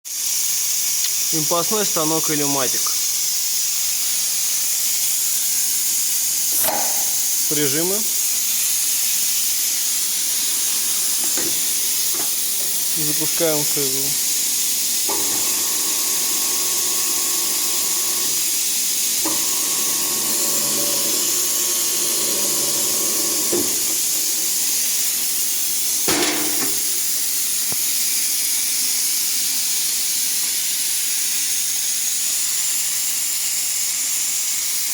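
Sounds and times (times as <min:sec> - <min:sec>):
milling machine hissing: 0:00.1 - 0:32.1.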